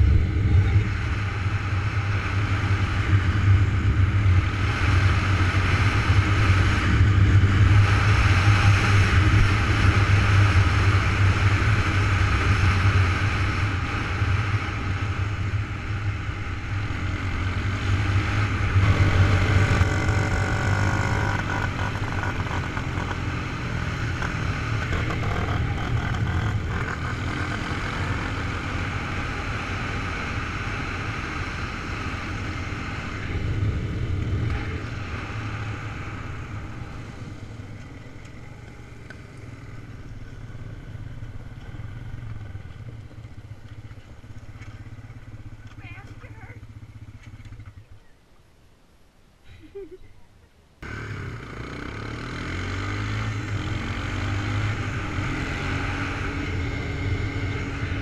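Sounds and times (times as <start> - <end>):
quad bike engine running: 0.0 - 48.1, 50.8 - 58.0.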